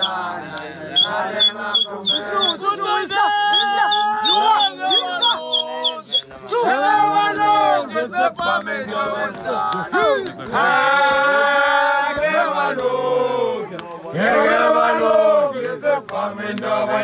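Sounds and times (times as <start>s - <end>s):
group of voices chanting: 0.0s - 17.0s.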